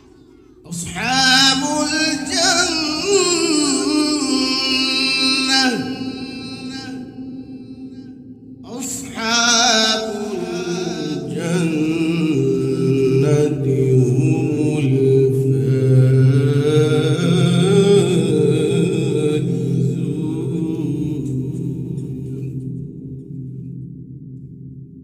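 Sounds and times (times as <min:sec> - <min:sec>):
man reciting melodically: 0:00.0 - 0:22.6.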